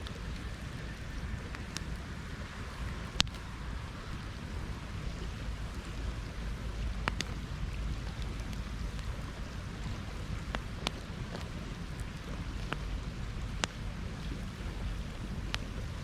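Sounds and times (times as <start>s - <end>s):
campfire burning: 0.0s - 16.0s
fire crackling pops: 0.0s - 16.0s.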